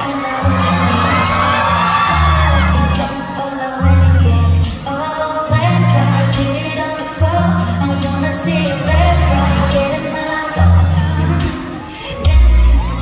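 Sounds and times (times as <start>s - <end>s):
pop backing track with heavy bass: 0.0s - 13.0s
woman singing into a microphone: 0.0s - 13.0s.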